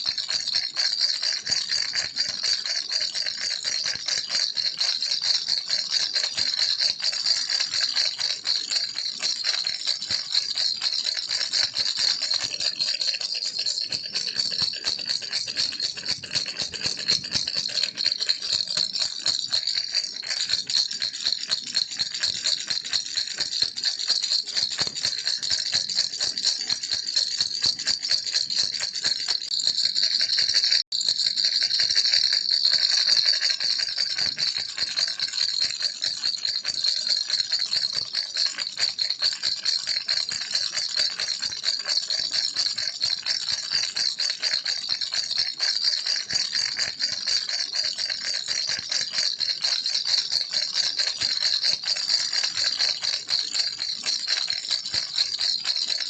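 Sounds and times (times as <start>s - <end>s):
plastic baby rattle shaken: 0.0s - 56.0s.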